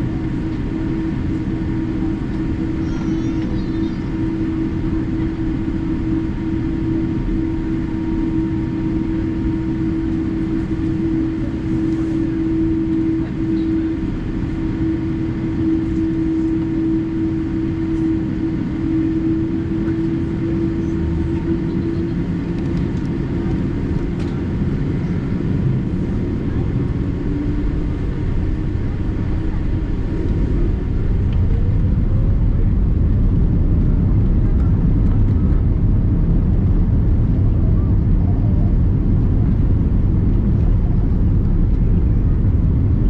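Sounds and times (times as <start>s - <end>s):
airliner cabin engine hum: 0.0s - 43.0s.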